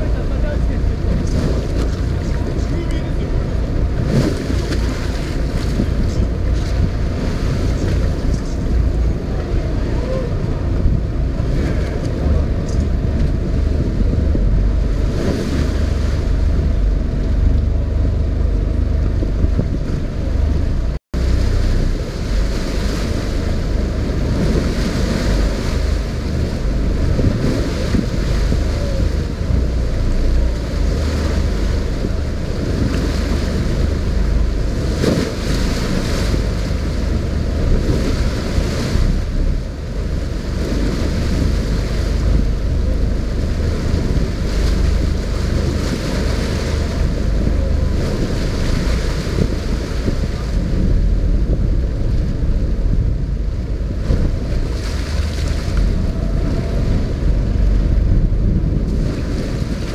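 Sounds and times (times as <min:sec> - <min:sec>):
waves washing around boat: 0:00.0 - 0:59.9
wind buffeting microphone: 0:00.0 - 0:59.9.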